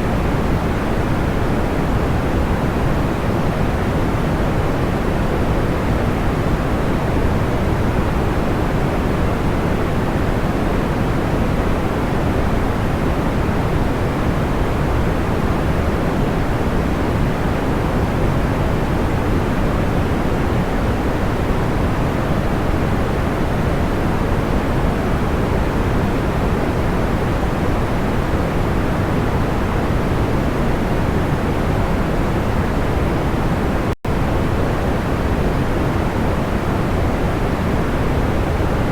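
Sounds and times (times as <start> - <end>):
steady soft pink noise: 0.0 - 38.9.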